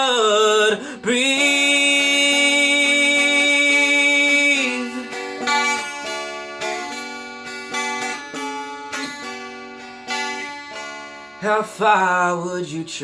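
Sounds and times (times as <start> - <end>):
mountain dulcimer strummed: 0.0 - 13.0.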